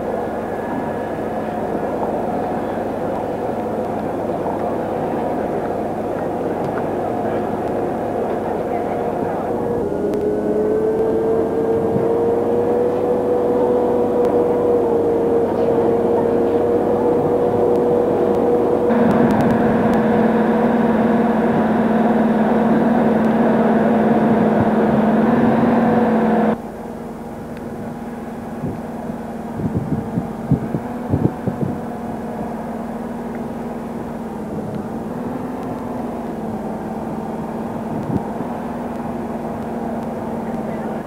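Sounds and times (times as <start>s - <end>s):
aircraft engine: 0.0s - 41.0s.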